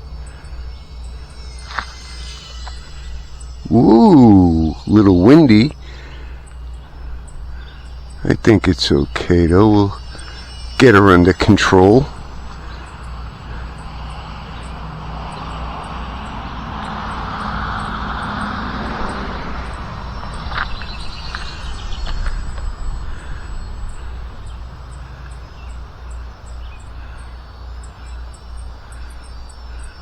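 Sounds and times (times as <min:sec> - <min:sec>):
electric motor and propeller whining: 0:00.0 - 0:30.0
wind rumbling on microphone: 0:00.0 - 0:30.0.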